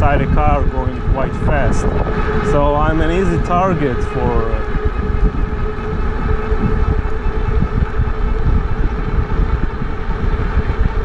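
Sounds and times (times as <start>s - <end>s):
faint steady whine: 0.0s - 11.0s
wind buffeting microphone: 0.0s - 11.0s.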